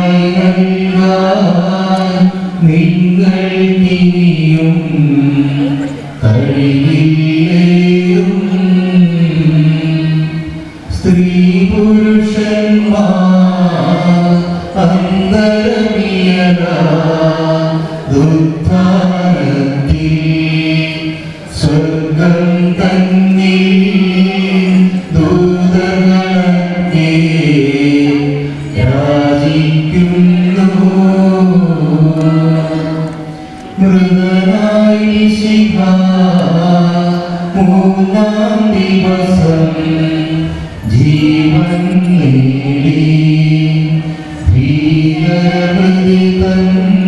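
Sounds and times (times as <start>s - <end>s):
musical accompaniment: 0.0s - 47.0s
slow chant-like singing: 0.0s - 47.0s.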